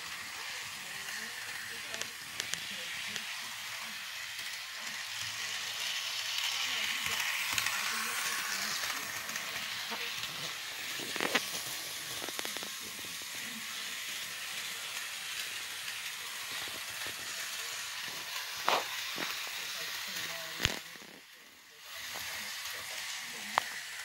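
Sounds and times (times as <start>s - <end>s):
model train whirring on track: 0.0s - 24.0s.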